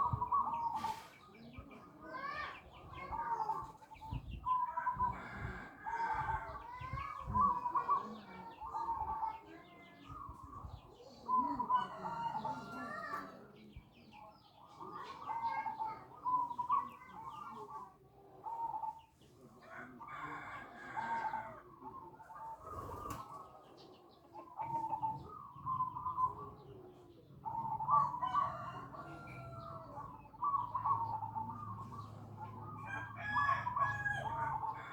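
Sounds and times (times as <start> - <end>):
birds calling: 0.0 - 17.8, 20.0 - 34.9.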